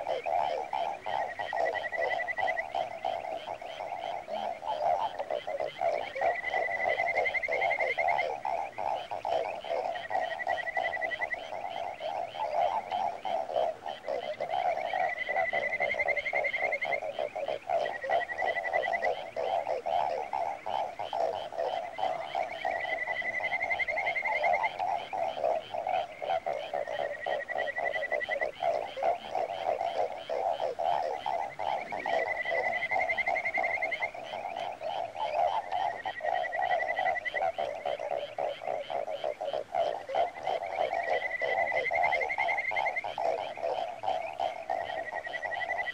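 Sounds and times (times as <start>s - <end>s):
frog chorus pulsing: 0.0s - 45.9s
trilled frog call: 0.0s - 45.9s.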